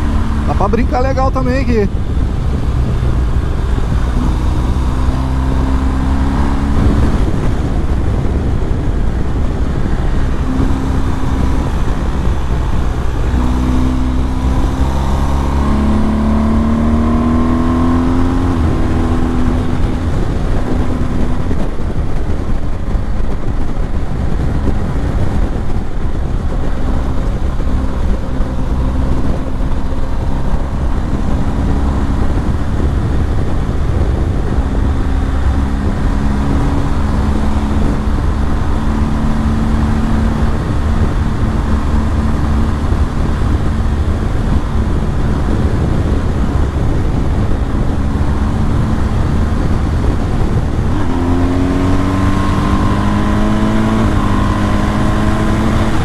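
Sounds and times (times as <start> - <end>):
motorcycle engine accelerating: 0.0 - 56.0
wind rush over microphone: 0.0 - 56.0.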